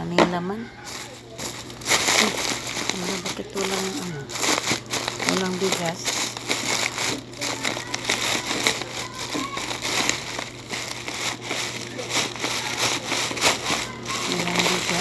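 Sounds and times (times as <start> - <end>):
plastic bag rustling and crinkling: 0.8 - 15.0.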